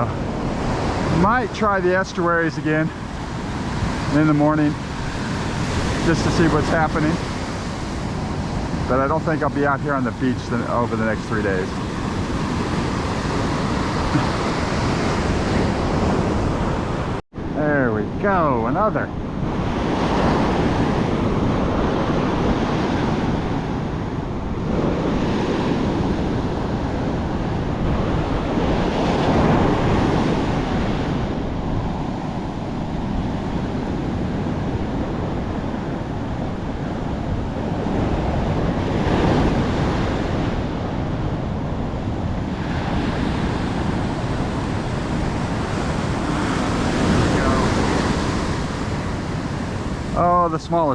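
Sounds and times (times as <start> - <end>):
heavy surf breaking: 0.0 - 50.9
wind buffeting microphone: 0.0 - 50.9.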